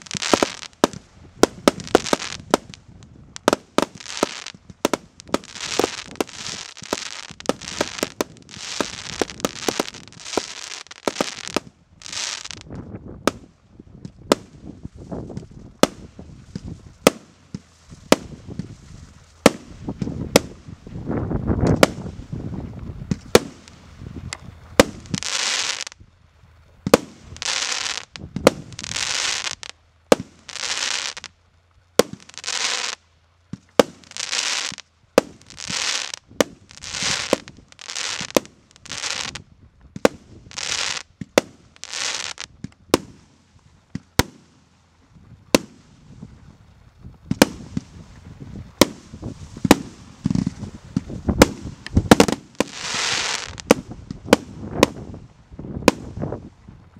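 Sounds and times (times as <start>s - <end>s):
firework hiss: 0.0s - 12.7s, 14.3s - 26.0s, 26.8s - 31.3s, 32.0s - 39.4s, 40.0s - 44.7s, 47.3s - 56.3s.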